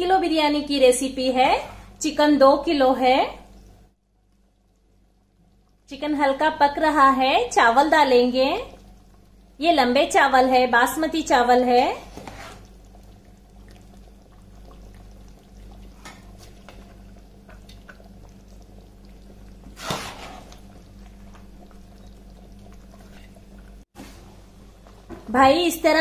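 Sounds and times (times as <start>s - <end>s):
steady low hum: 3.3s - 25.2s.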